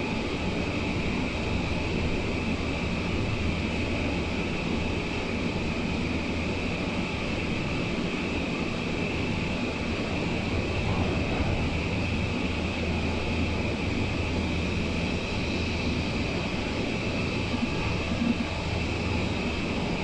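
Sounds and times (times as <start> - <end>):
constant high whine: 0.0 - 20.0.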